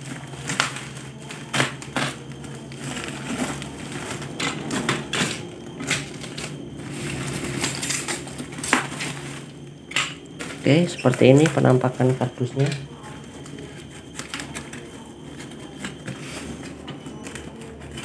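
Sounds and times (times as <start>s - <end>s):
bubble wrap crinkling and crackling: 0.0s - 18.0s.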